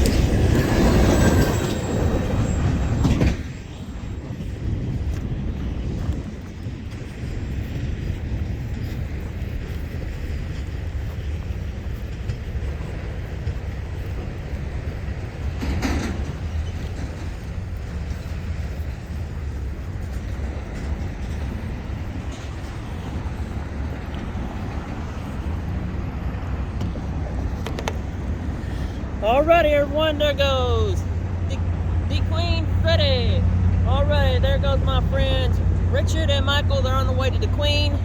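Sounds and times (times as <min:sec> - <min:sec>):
diesel locomotive rumbling: 0:00.0 - 0:38.0.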